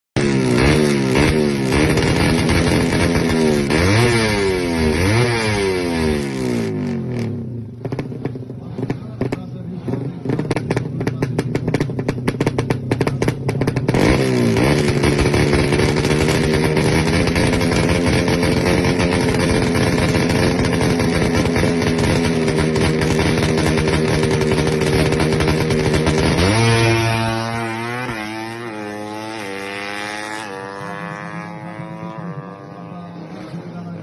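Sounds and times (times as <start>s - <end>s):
motorcycle engine popping and revving: 0.2s - 34.0s.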